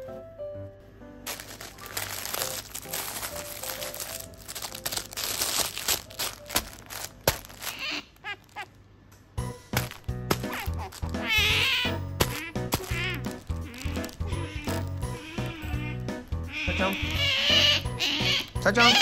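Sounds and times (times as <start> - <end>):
plush toy crinkling and rustling: 1.2 - 8.8, 9.6 - 19.0.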